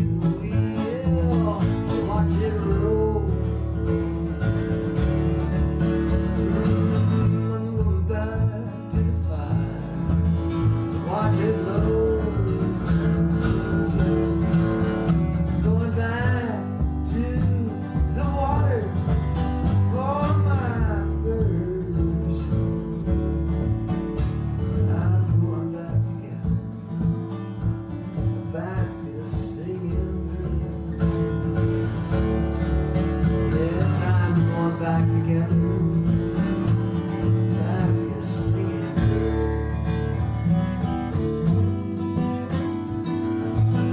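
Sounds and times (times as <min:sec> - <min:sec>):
acoustic guitar country music: 0:00.0 - 0:43.9.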